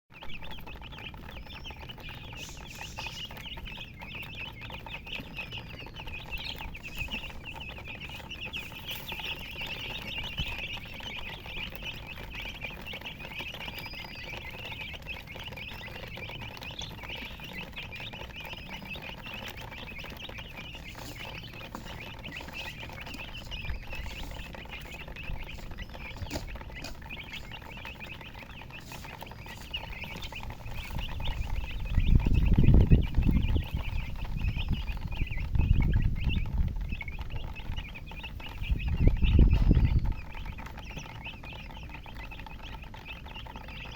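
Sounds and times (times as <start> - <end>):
chicks peeping: 0.1 - 43.9.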